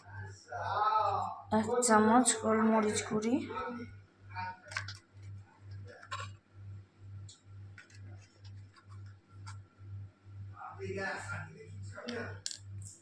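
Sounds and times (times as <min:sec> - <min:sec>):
faint pulsing low hum: 0:00.0 - 0:13.0.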